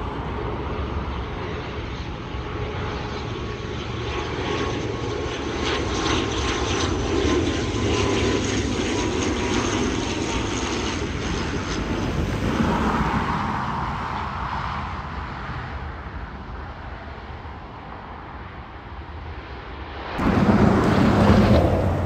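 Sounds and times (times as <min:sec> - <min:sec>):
loud aircraft noise: 0:00.0 - 0:22.0
turboprop engines and propellers: 0:00.0 - 0:22.0.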